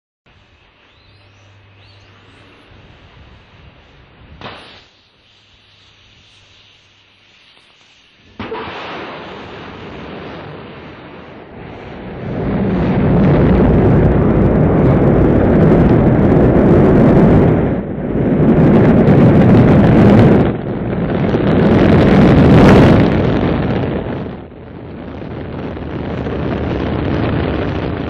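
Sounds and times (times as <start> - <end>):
rocket engines firing: 1.4 - 5.0, 7.6 - 28.0.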